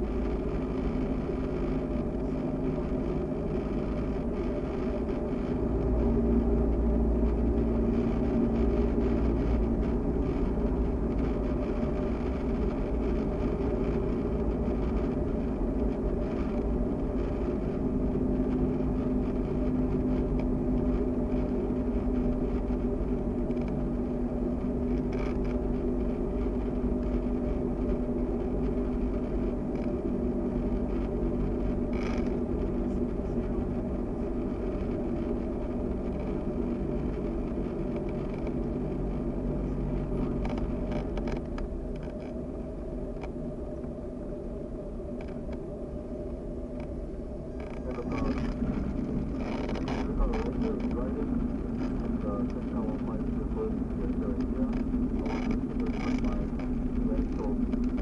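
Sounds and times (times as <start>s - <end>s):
aircraft engine and propeller droning: 9.5s - 58.0s.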